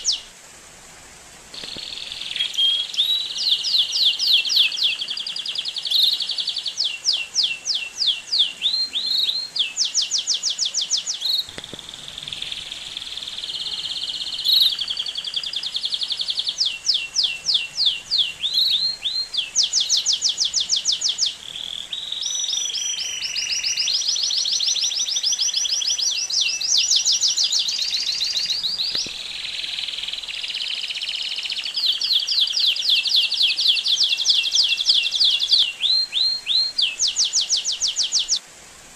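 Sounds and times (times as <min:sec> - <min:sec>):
canary singing trills: 0:00.0 - 0:00.3, 0:01.6 - 0:38.4.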